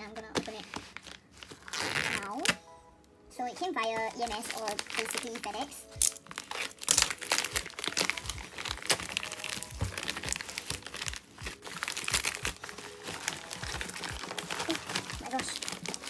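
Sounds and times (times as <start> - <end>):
plastic mailer crinkling: 0.0 - 2.6, 3.8 - 16.0.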